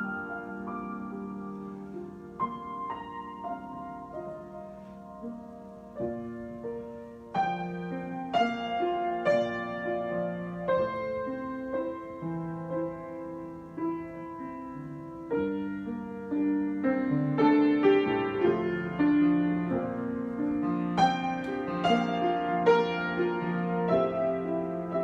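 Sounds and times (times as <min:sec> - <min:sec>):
solo piano: 0:00.0 - 0:25.0.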